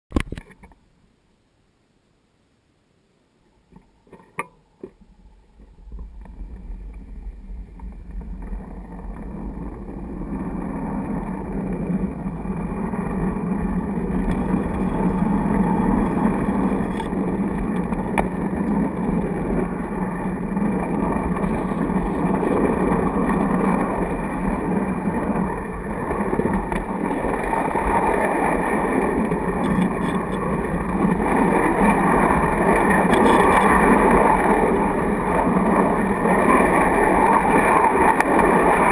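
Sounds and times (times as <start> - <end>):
model train wheels rolling on track: 5.6 - 38.9.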